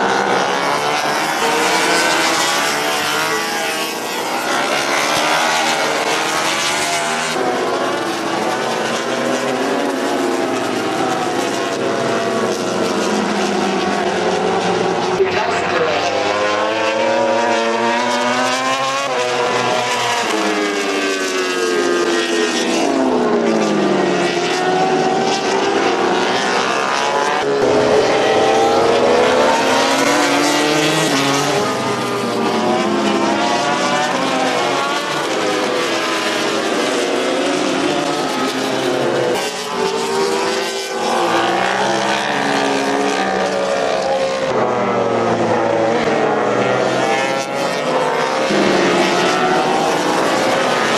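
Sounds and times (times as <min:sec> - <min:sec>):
racing motorcycles passing: 0:00.0 - 0:50.9.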